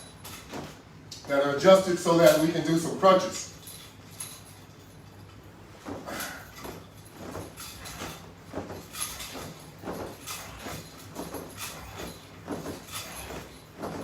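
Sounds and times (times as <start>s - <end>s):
rustling and scuffing of clothing: 0.0s - 14.0s.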